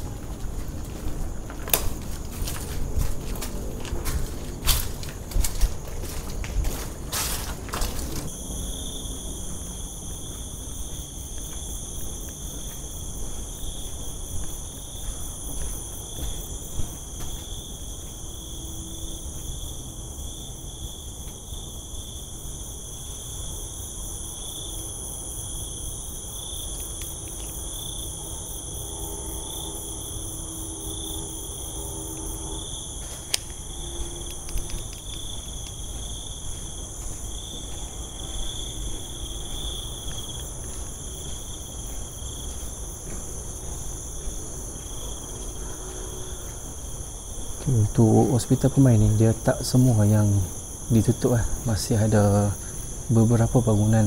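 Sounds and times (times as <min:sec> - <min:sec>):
insects calling: 0:00.0 - 0:54.0.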